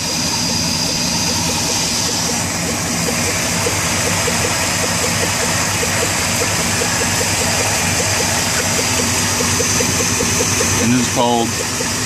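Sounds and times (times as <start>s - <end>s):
car engine idling: 0.0s - 12.0s
engine ticking: 0.0s - 12.0s.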